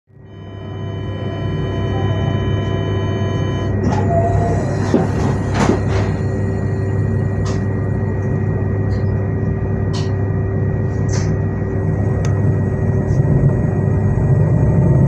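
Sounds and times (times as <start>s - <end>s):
electric train hum and rumble: 0.1s - 15.0s.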